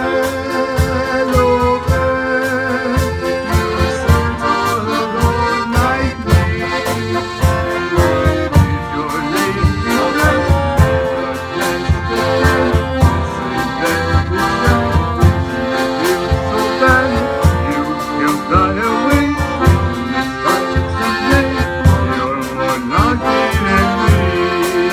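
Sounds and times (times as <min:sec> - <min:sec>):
accordion chords: 0:00.0 - 0:24.9
drum kit beat with cymbal: 0:00.0 - 0:24.9
guitar: 0:00.0 - 0:24.9.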